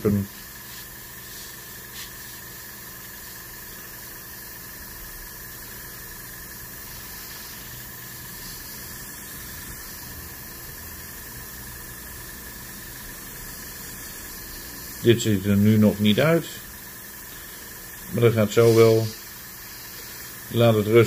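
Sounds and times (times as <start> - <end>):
airbrush hissing: 0.0 - 21.0
steady low hum: 0.0 - 21.0.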